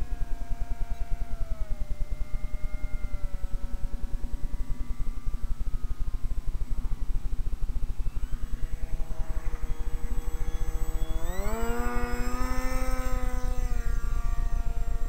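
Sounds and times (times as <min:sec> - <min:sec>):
low fluttering rumble: 0:00.0 - 0:15.0
model boat motor whining: 0:00.0 - 0:15.0.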